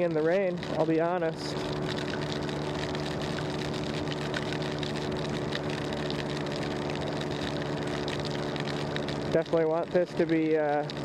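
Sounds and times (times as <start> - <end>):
motor scooter engine running: 0.0 - 11.0.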